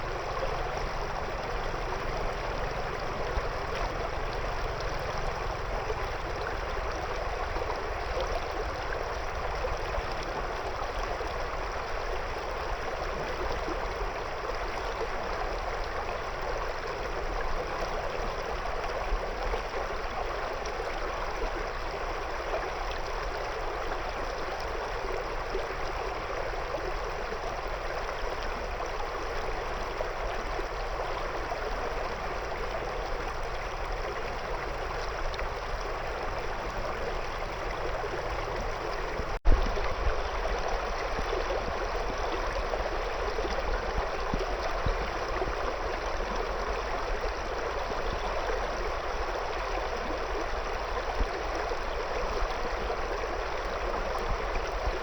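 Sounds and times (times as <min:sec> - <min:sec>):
river water gurgling around stones: 0:00.0 - 0:55.0.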